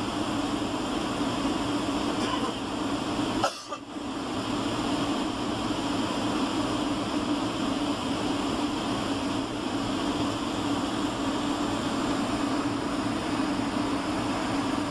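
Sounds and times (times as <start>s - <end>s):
airliner cabin hum and airflow: 0.0s - 14.9s.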